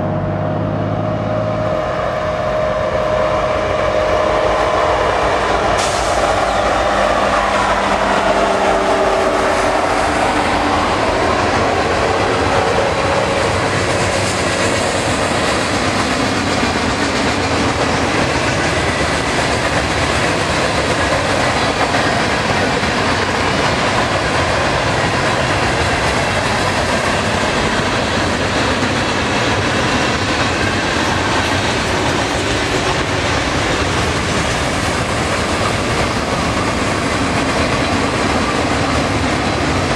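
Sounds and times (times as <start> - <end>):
diesel locomotive engine: 0.0 - 39.9
wheels clickety-clack over rail joints: 5.4 - 39.9.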